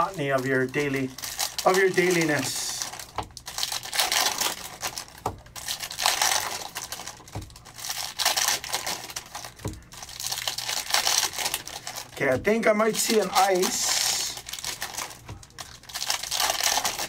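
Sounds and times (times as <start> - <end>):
foil wrappers crinkling and tearing: 0.0 - 17.0.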